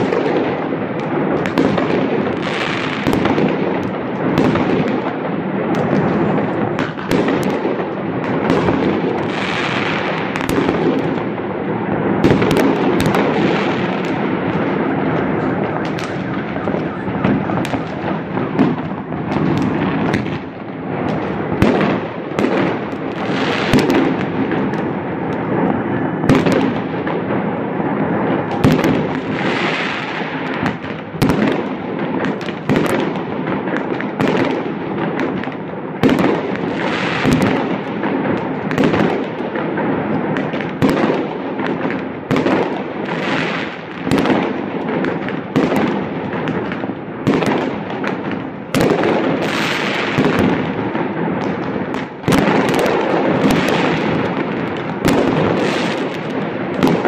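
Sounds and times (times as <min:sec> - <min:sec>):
fireworks bangs: 0:00.0 - 0:57.0
fireworks crackle: 0:00.0 - 0:57.0.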